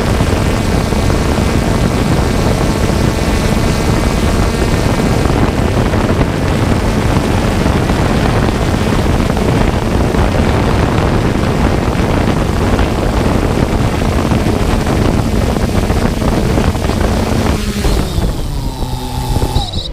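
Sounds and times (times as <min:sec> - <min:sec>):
drone propellers whirring: 0:00.0 - 0:19.9.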